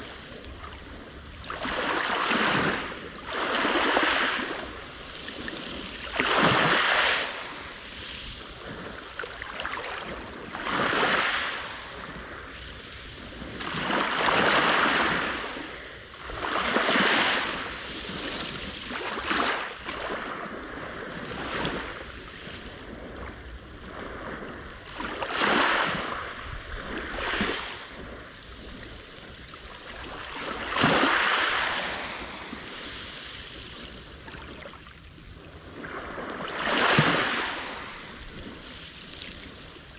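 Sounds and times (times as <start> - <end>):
sea waves breaking on shore: 0.0 - 39.9
steady wash of sea: 0.0 - 39.9.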